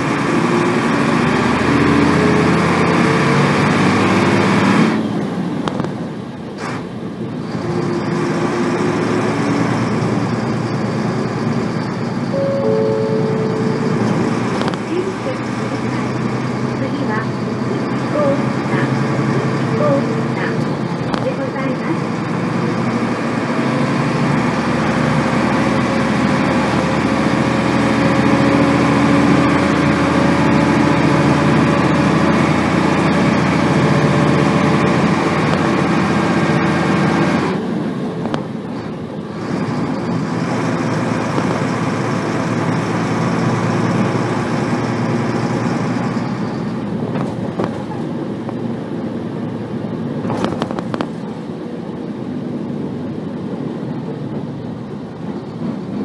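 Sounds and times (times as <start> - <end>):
diesel bus engine with gear whine: 0.0 - 56.0.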